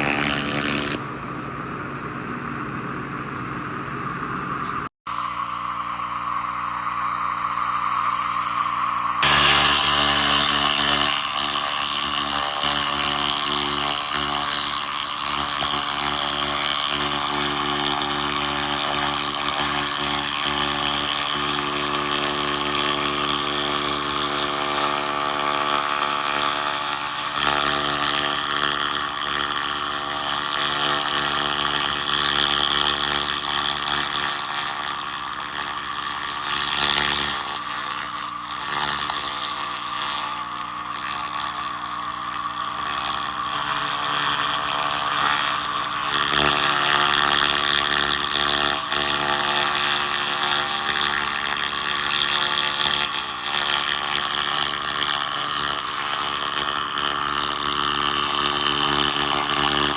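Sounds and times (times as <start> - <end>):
laser hissing buzz: 0.0 - 59.9
machine hum: 0.0 - 59.9.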